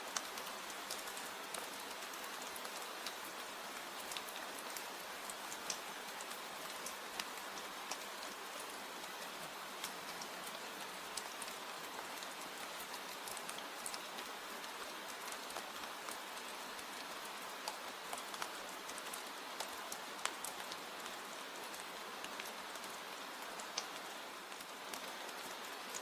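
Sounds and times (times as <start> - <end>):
steady rain falling: 0.0 - 26.0
raindrop ticks: 0.1 - 3.5, 4.1 - 14.3, 15.2 - 26.0.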